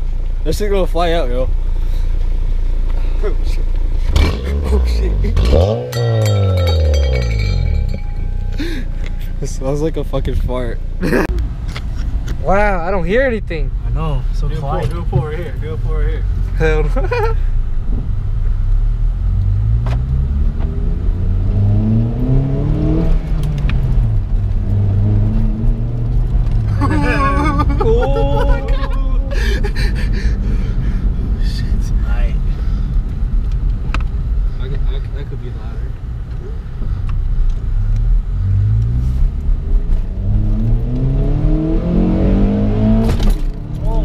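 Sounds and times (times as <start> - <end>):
car engine and loud exhaust: 0.0 - 44.0.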